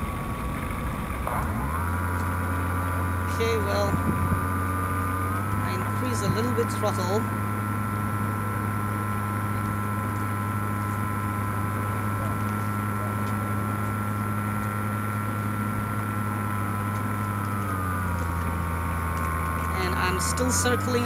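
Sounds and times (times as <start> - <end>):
electric motor and propeller: 0.0 - 21.0.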